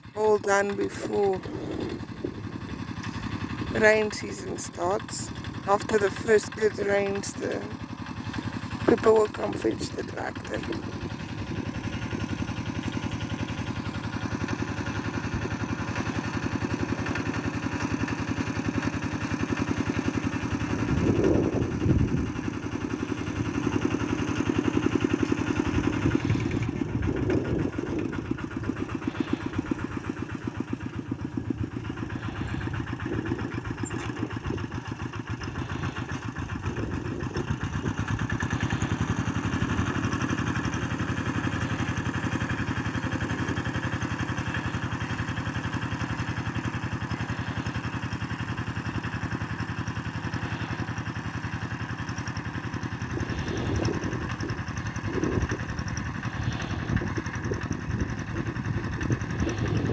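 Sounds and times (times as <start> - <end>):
small tractor engine running: 0.0 - 59.9.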